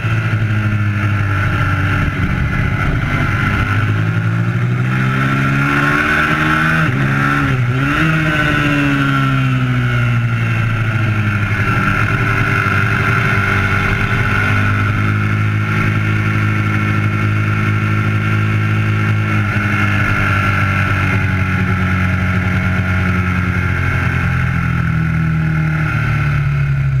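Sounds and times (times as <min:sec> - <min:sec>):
motorcycle engine running: 0:00.0 - 0:27.0
wind noise: 0:00.0 - 0:27.0.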